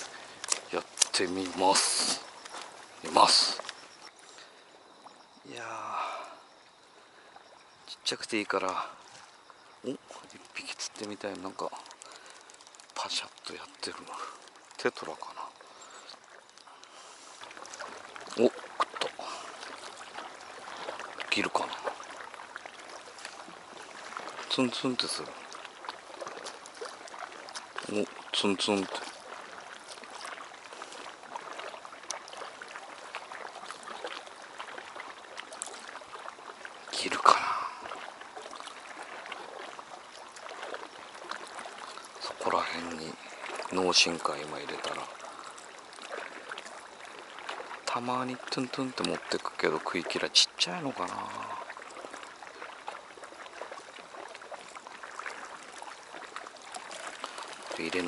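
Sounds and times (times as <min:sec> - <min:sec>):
small water splashes: 0:00.0 - 0:58.0
waves lapping against wall: 0:00.0 - 0:58.0.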